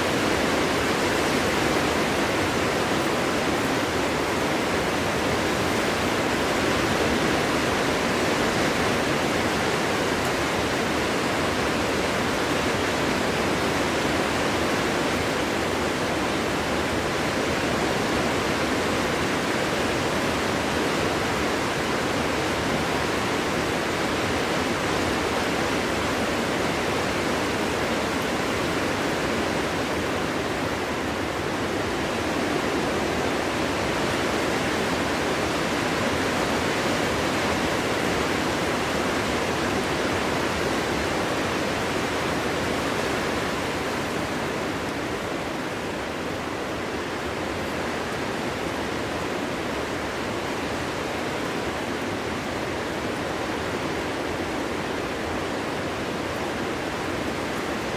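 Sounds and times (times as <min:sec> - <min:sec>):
rushing wind: 0:00.0 - 0:57.9.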